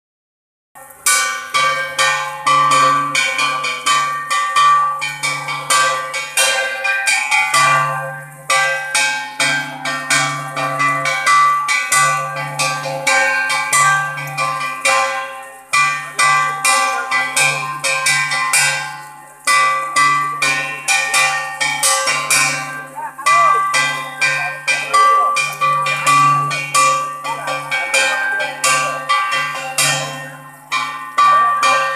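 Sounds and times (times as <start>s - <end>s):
bells struck: 0.8s - 31.9s.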